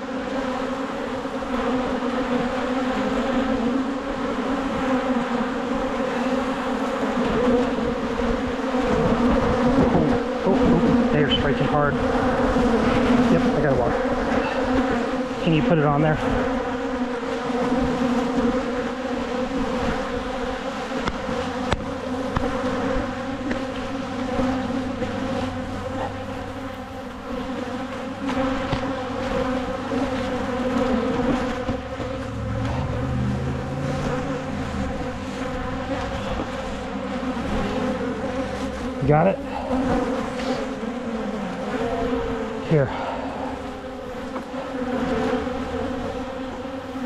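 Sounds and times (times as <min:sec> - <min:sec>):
bees buzzing: 0:00.0 - 0:47.0.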